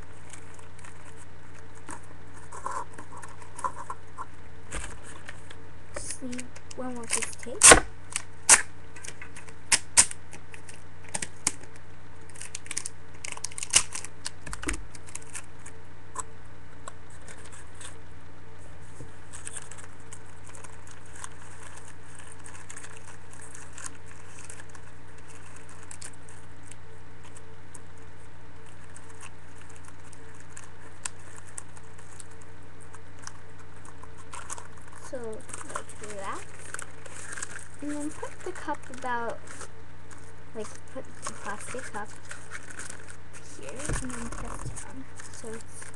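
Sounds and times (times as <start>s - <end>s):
steady low hum: 0.0s - 45.9s
tape crinkling and scratching: 0.0s - 45.9s.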